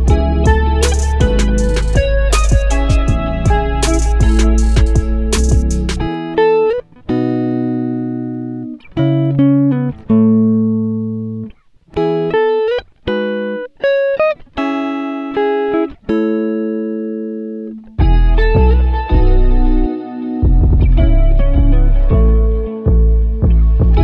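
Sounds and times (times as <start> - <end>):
plucked string instrumental music: 0.0 - 24.0.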